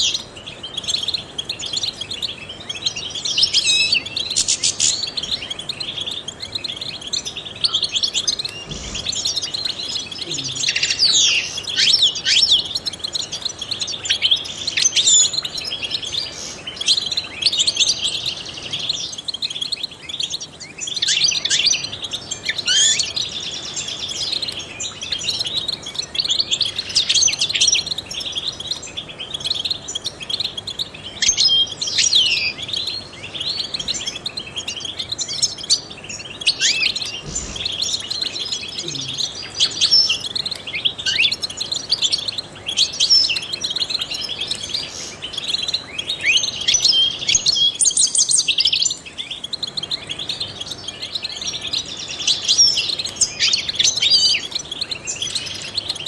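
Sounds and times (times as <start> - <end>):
bird singing twittering chirps: 0.0 - 56.0.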